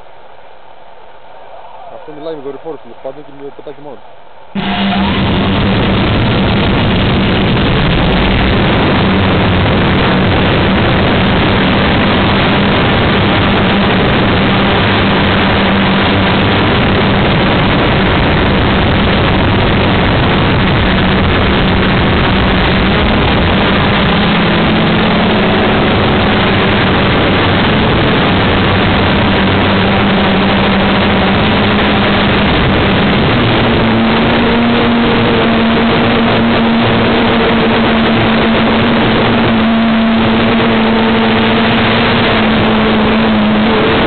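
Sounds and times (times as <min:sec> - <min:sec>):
drone motors and propellers: 0:04.4 - 0:44.0.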